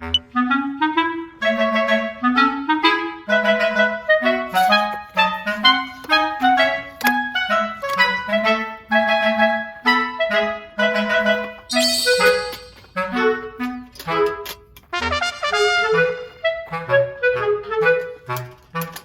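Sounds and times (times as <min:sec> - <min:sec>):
instrumental music melody: 0:00.0 - 0:19.0.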